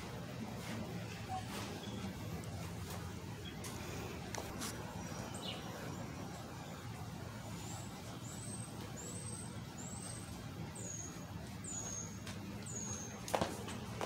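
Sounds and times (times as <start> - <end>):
low hum of street traffic: 0.0 - 14.0.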